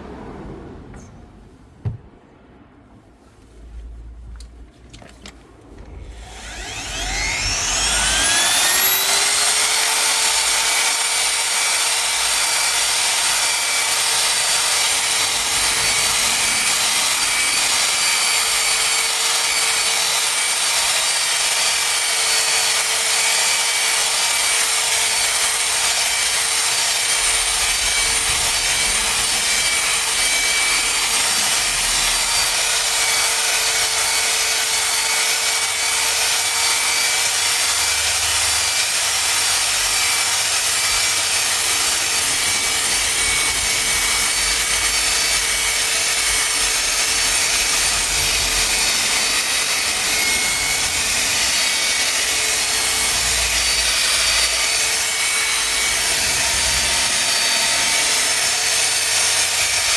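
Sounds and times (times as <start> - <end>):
machine polisher motor whine: 5.8 - 59.9.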